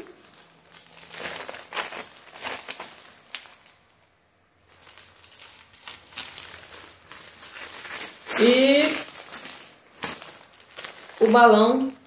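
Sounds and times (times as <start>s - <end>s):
foil balloon crinkling: 0.0s - 4.0s, 4.6s - 12.0s.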